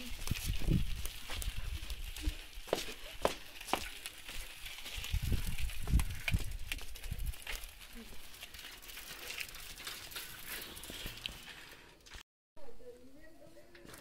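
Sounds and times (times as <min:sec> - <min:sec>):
bicycle rolling over dirt: 0:00.0 - 0:12.2
clicks and crackles: 0:00.0 - 0:12.2.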